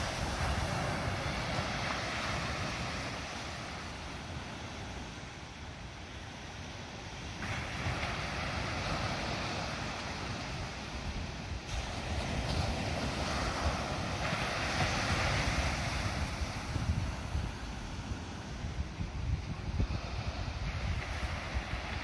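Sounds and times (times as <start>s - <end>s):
wind buffeting microphone: 0.0s - 5.2s, 7.2s - 22.0s
ocean surf breaking: 0.0s - 22.0s.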